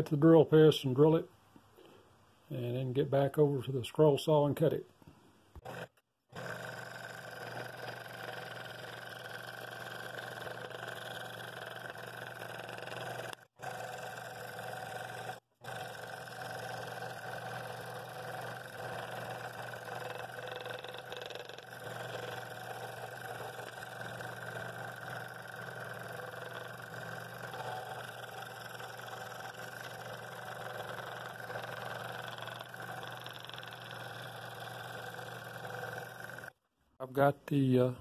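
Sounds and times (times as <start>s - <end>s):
motor hum: 5.5s - 36.7s
scroll saw blade cutting wood: 5.6s - 36.6s.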